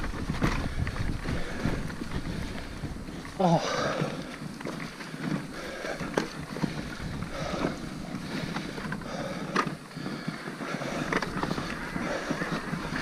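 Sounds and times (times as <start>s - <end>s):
bike knocks and rattles: 0.0s - 13.0s
tyre and wind noise: 0.0s - 13.0s.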